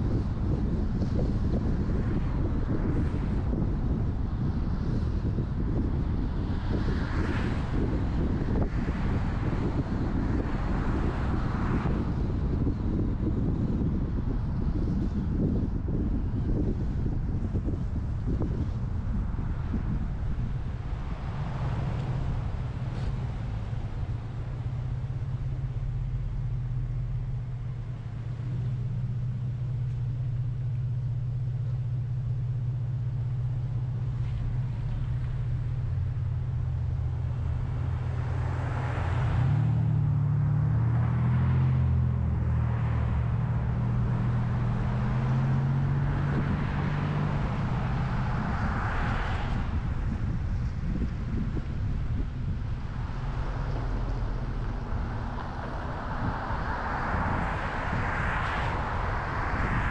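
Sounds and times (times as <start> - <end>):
car engine and road hum: 0.0 - 59.9.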